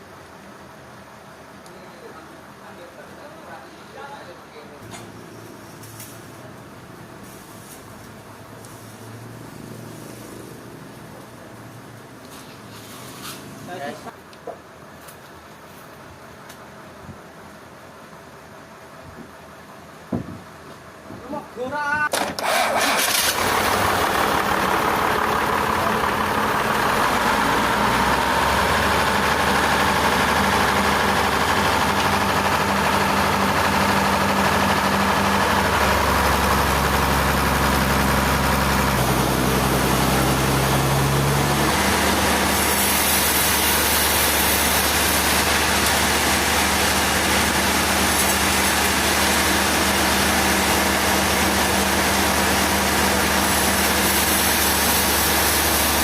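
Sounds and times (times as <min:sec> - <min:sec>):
heavy engine running: 0:04.8 - 0:21.2, 0:22.1 - 0:56.0.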